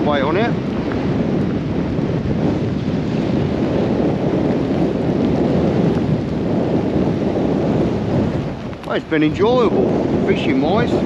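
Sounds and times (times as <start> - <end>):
heavy rain: 0.0 - 11.0
storm wind buffeting microphone: 0.0 - 11.0.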